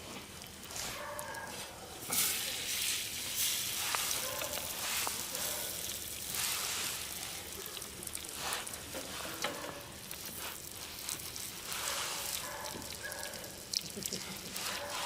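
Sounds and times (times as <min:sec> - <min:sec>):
wood fire crackling and hissing: 0:00.0 - 0:15.0.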